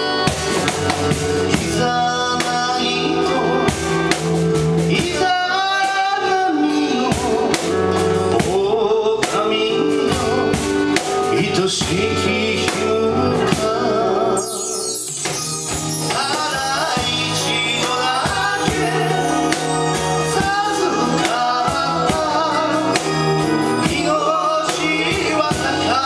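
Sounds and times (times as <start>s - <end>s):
slow song with percussion beat: 0.0s - 26.0s.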